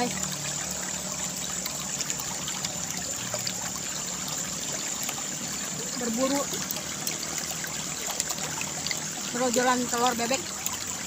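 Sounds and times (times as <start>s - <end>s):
water trickling in a channel: 0.0s - 11.0s.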